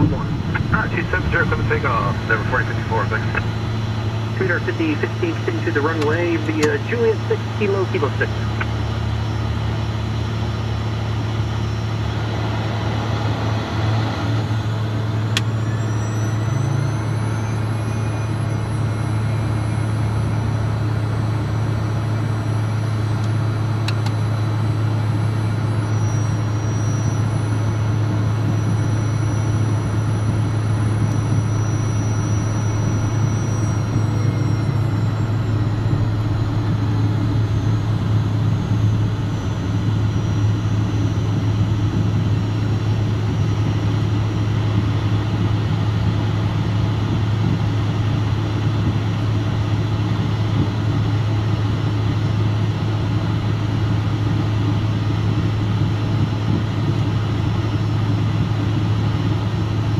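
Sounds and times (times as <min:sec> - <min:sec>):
high turbine whine: 0:00.0 - 0:59.9
jet engine cockpit drone: 0:00.0 - 0:59.9.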